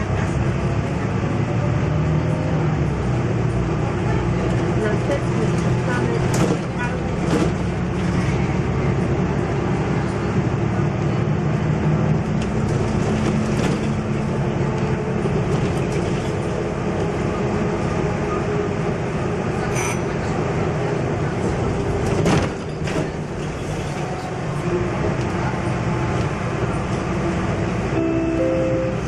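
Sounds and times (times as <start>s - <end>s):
bus diesel engine running: 0.0s - 29.0s
tyre and road noise: 0.0s - 29.0s.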